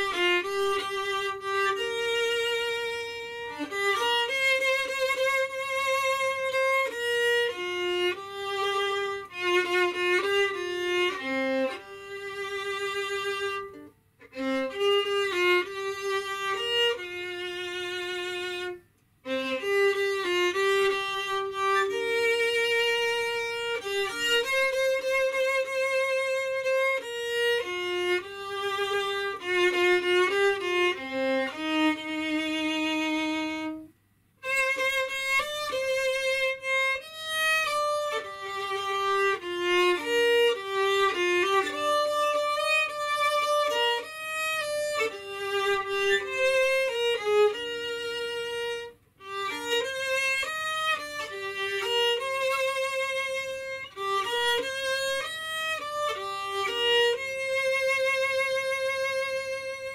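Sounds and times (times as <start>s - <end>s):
solo violin melody: 0.0s - 59.9s.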